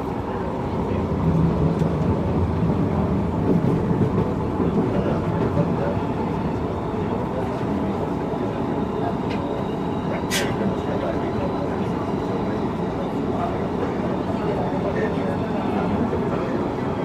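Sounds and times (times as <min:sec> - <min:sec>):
metro train running rumble: 0:00.0 - 0:17.0
passengers' voices: 0:00.0 - 0:17.0.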